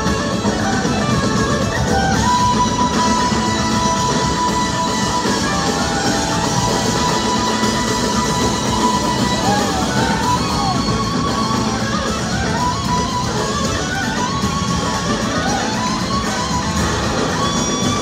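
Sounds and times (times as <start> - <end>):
drums: 0.0 - 18.0
electric guitar: 0.0 - 18.0
live blues-rock band: 0.0 - 18.0.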